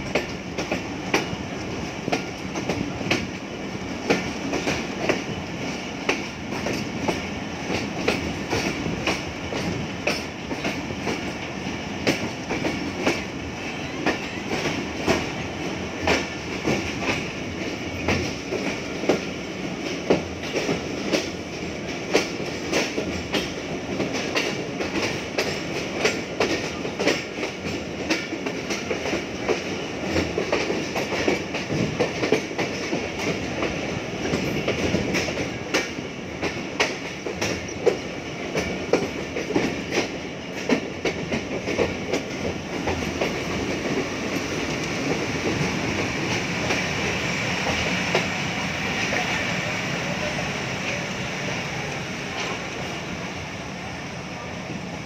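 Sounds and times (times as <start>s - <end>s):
train wheels clattering over rails: 0.0s - 53.6s.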